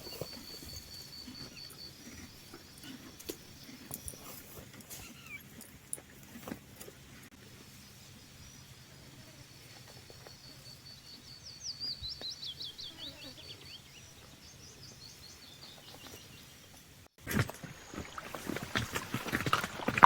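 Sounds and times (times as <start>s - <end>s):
songbird singing: 0.0s - 5.7s, 7.4s - 20.0s.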